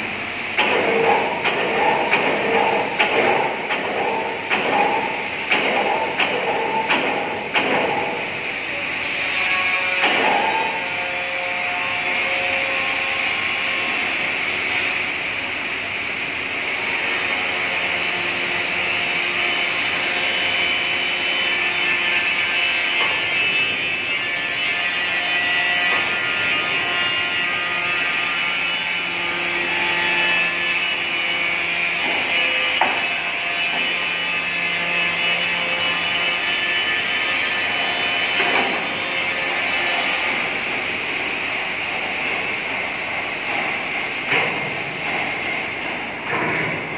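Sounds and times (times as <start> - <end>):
workshop machinery hum: 0.0 - 46.9.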